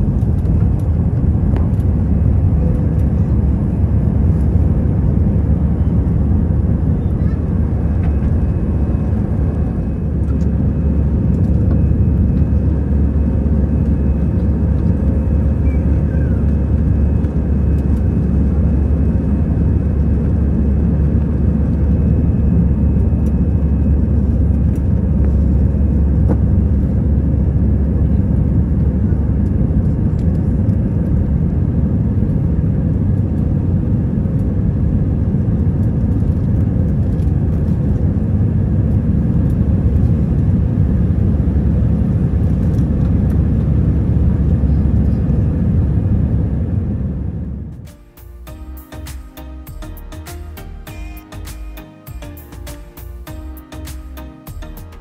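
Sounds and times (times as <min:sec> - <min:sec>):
engine rumble and airflow in cabin: 0:00.0 - 0:55.0.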